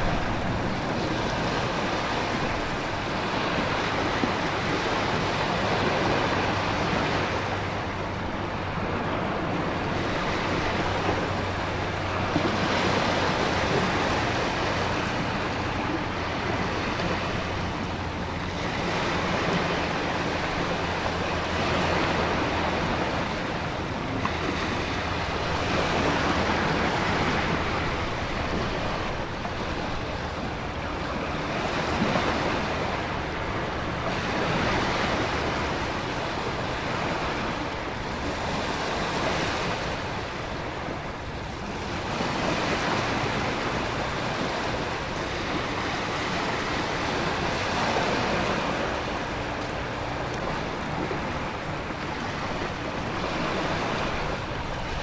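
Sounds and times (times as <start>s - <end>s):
heavy surf breaking: 0.0s - 55.0s.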